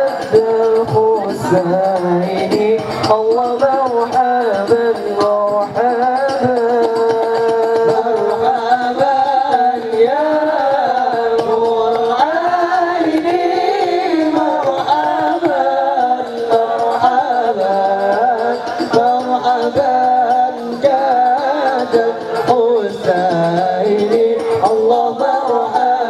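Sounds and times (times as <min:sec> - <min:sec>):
young men singing together: 0:00.0 - 0:26.0.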